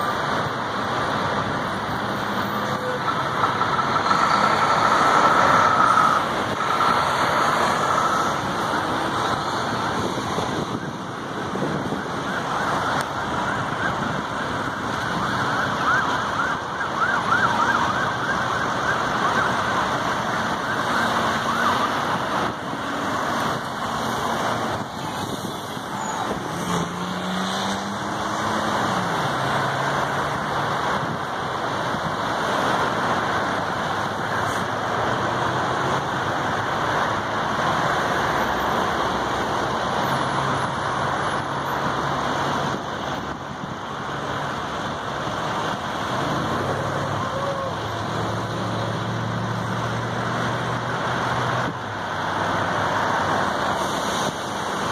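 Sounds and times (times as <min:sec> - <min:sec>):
emergency siren wailing: 0:00.0 - 0:54.9
road traffic: 0:00.0 - 0:54.9.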